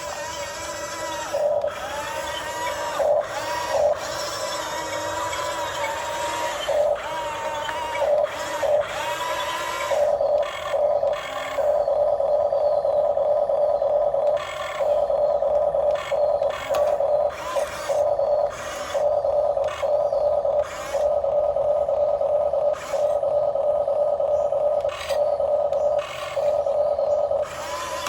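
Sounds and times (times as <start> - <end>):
electric motor whine: 0.0 - 28.0.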